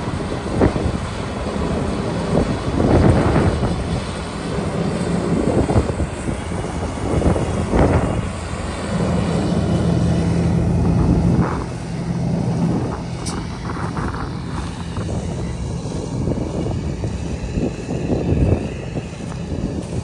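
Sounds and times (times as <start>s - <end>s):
combine harvester engine drone: 0.0s - 20.0s
steady hum: 0.0s - 20.0s.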